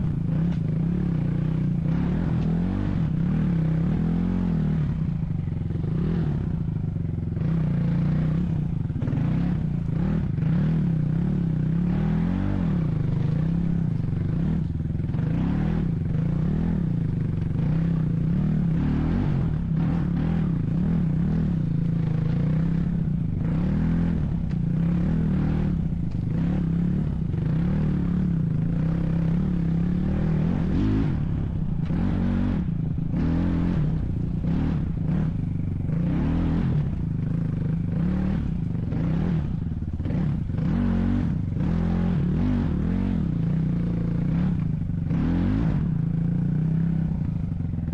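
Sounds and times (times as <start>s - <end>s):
vehicle engine revving under load: 0.0s - 47.9s.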